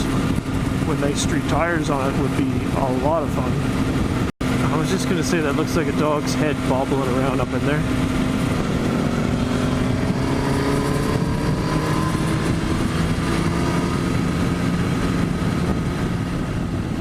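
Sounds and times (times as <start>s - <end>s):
motorcycle engine running: 0.0s - 17.0s
wind rushing: 0.0s - 17.0s.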